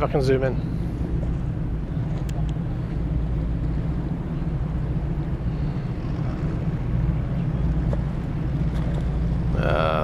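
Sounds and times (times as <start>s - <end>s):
harbour background rumble: 0.0s - 10.0s.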